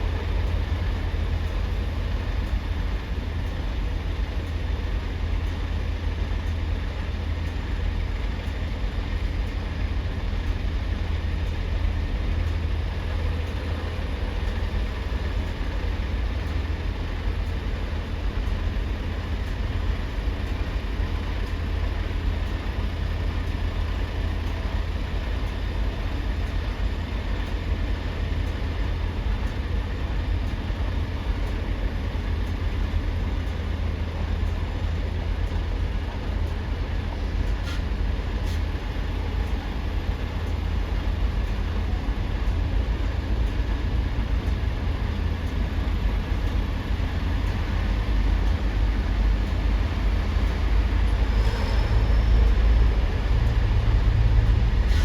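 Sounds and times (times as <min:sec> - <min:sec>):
heavy engines rumbling: 0:00.0 - 0:55.0.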